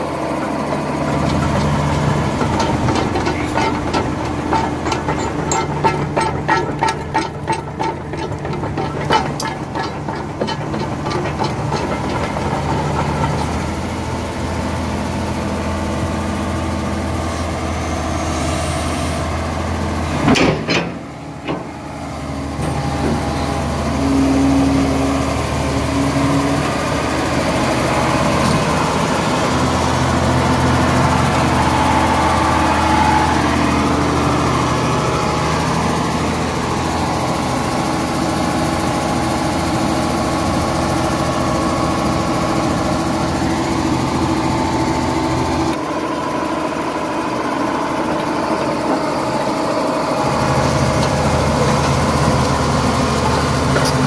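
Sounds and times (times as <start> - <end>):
excavator diesel engine idling: 0.0 - 54.0.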